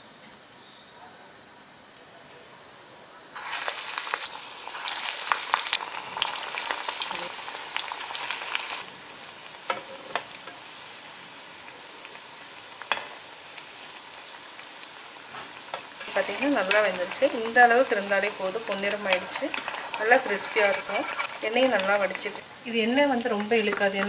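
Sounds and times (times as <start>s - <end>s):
deep-frying sizzling and crackling: 3.4s - 24.0s.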